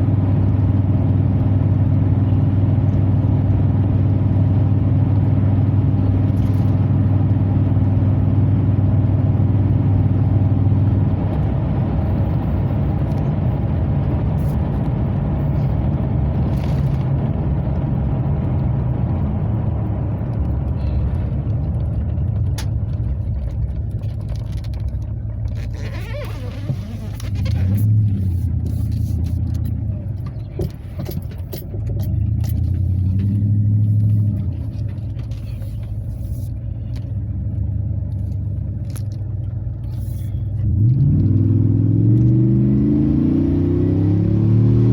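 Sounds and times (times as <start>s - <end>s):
truck exhaust drone from inside cab: 0.0s - 44.9s.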